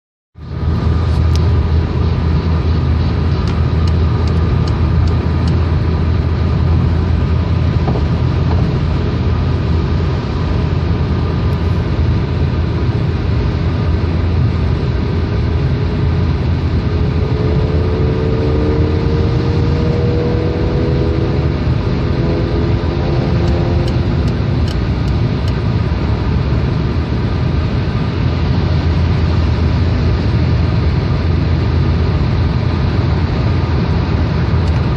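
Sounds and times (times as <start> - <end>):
car engine and road rumble: 0.4 - 34.9.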